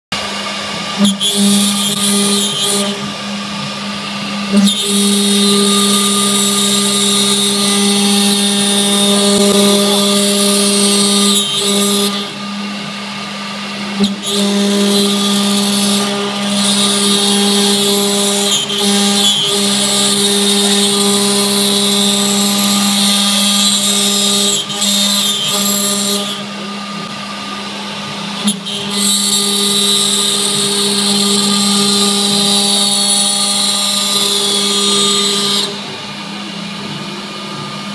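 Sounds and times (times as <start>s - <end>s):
end mill cutting aluminium: 0.1s - 37.9s
router spindle humming: 0.1s - 37.9s.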